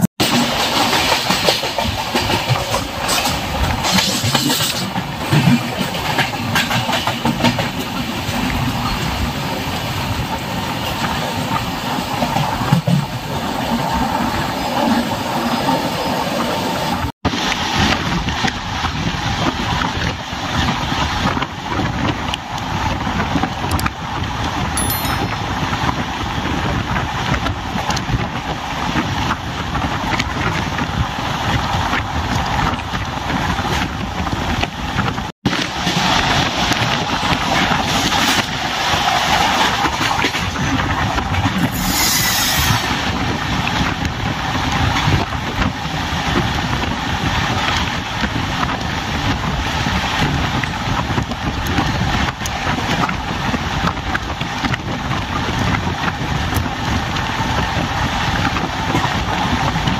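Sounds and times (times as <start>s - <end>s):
train wheels rumbling on track: 0.0s - 24.7s, 25.4s - 59.9s
wind rushing over microphone: 0.7s - 59.9s.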